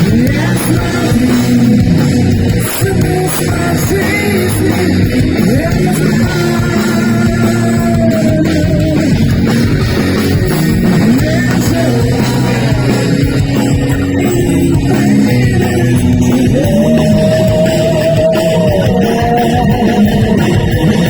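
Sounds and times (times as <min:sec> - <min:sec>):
heavy rock band playing: 0:00.0 - 0:21.0
lead electric guitar bending notes: 0:00.0 - 0:21.0.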